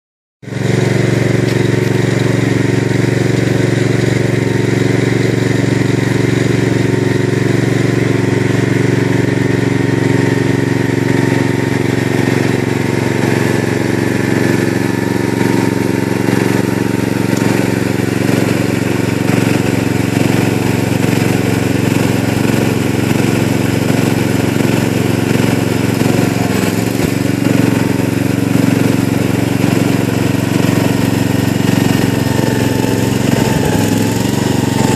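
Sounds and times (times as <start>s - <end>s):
tractor engine running: 0.4s - 34.9s.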